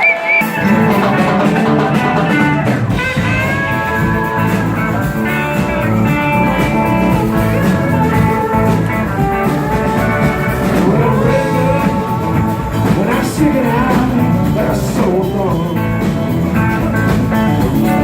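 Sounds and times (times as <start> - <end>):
live rock band with guitar: 0.0 - 18.0
low bass line: 0.6 - 18.0.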